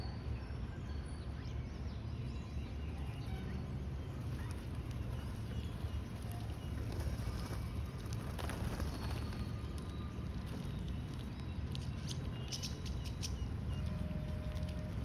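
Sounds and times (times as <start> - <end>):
lovebirds chirping: 2.5 - 15.0.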